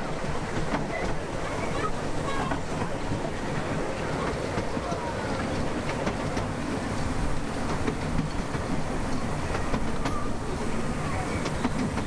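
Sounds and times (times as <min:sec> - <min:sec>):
train carriage rumbling on track: 0:00.0 - 0:12.0
wheels clicking over rail joints: 0:00.0 - 0:12.0.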